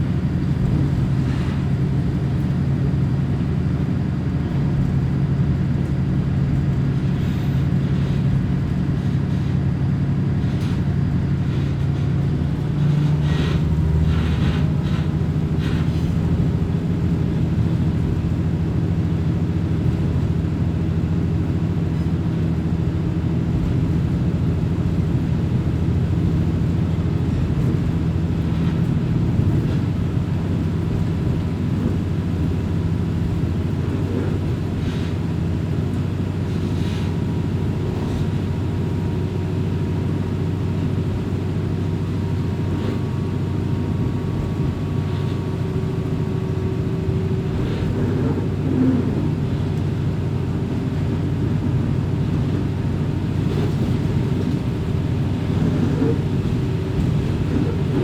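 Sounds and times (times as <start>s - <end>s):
railcar engine drone: 0.0s - 58.0s
train clacks: 6.6s - 58.0s.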